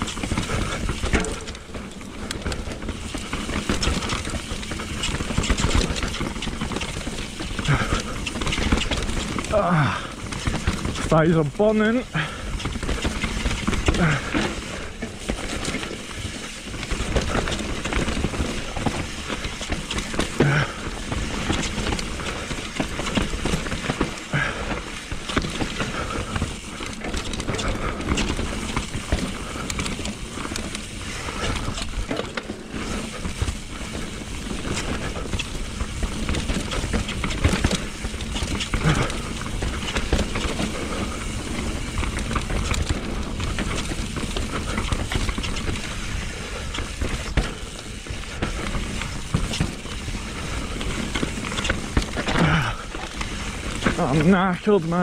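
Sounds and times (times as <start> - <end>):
bike rattling over bumps: 0.0 - 55.0.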